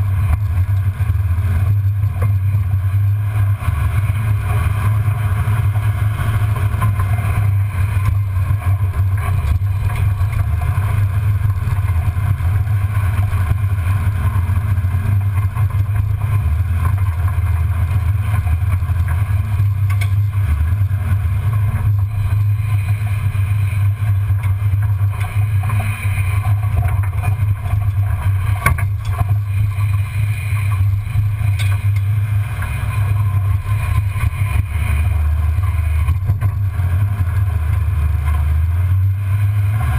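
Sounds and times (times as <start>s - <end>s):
tires on dirt and gravel: 0.0s - 39.9s
truck engine droning: 0.0s - 39.9s.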